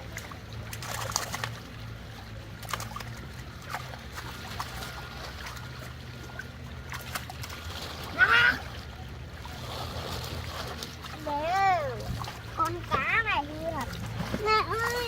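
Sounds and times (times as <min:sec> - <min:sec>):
steady low hum: 0:00.0 - 0:15.0
stream water splashing: 0:00.0 - 0:15.0.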